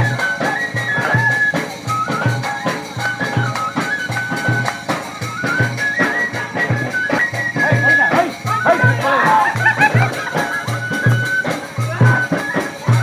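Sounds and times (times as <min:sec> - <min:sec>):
dance music with drum beat: 0:00.0 - 0:13.0
high melody line: 0:00.0 - 0:13.0.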